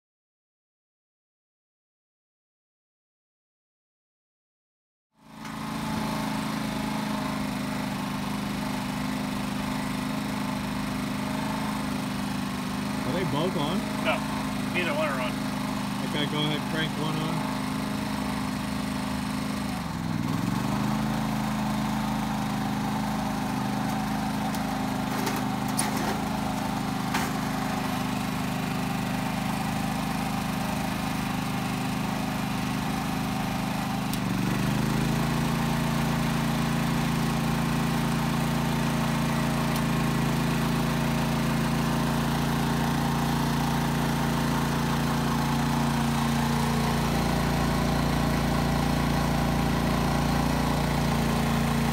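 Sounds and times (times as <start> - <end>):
portable generator engine running: 5.2 - 51.9.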